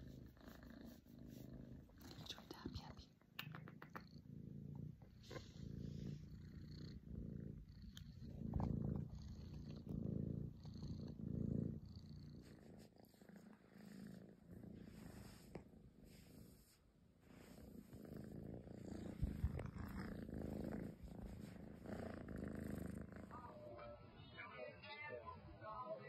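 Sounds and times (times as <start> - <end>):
kitten purring: 0.0 - 23.8.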